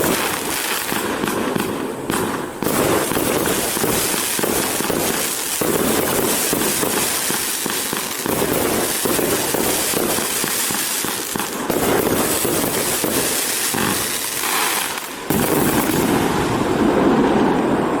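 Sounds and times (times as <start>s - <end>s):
firework barrage bangs and pops: 0.0s - 18.0s.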